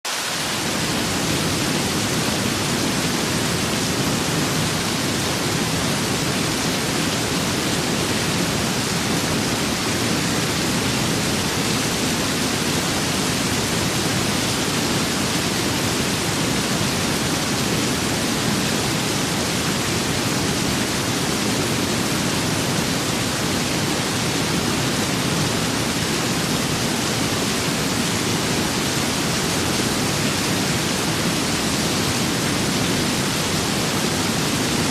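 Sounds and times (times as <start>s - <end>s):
steady rain with wind: 0.0s - 34.9s.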